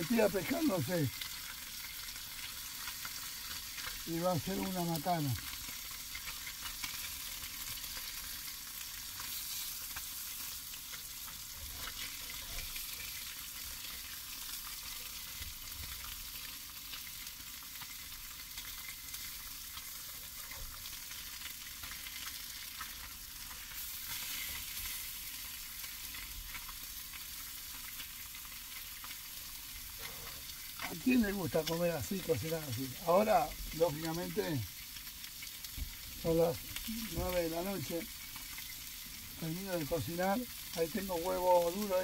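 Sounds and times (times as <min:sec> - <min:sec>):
fish fillets sizzling in oil: 0:00.0 - 0:42.0.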